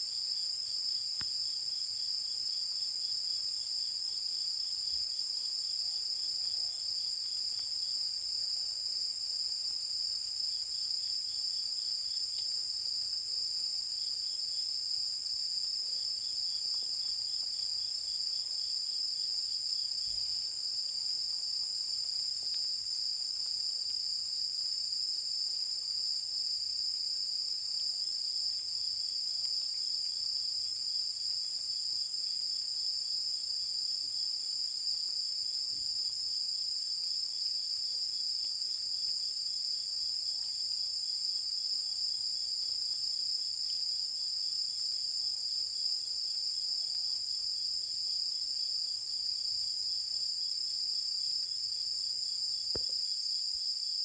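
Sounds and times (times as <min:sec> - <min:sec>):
rapidly pulsing insect call: 0:00.0 - 0:53.6.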